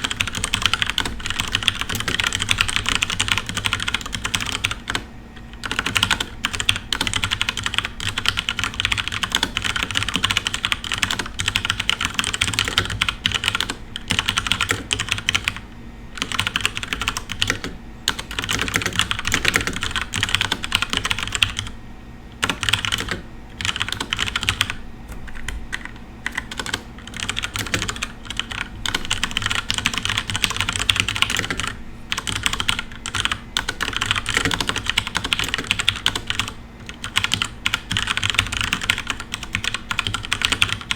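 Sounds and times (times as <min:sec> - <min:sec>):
fast typing on mechanical keyboard: 0:00.0 - 0:15.6, 0:16.2 - 0:21.7, 0:22.4 - 0:40.9.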